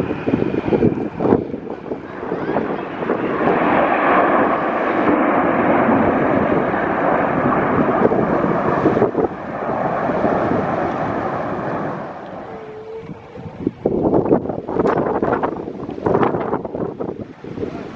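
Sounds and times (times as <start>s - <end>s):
fighter jets flying past: 0.0s - 17.9s.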